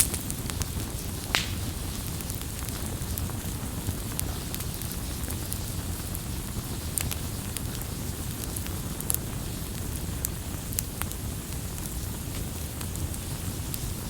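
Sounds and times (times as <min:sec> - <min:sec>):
campfire rumbling: 0:00.0 - 0:14.0
fire crackling and popping: 0:00.0 - 0:14.0.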